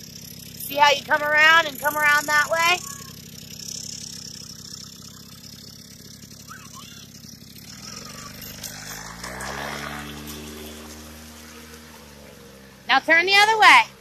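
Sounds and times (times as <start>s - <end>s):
dirtbike engine running: 0.0s - 14.0s.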